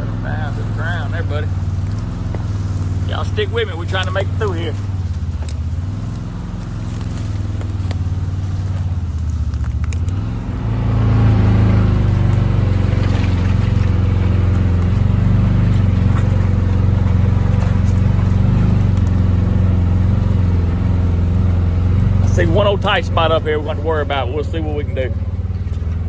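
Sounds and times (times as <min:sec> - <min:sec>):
vehicle engine running under load: 0:00.0 - 0:26.0.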